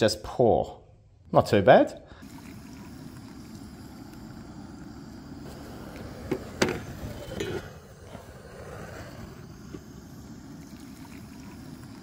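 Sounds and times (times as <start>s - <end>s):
hot water pouring into a mug: 2.2s - 12.0s.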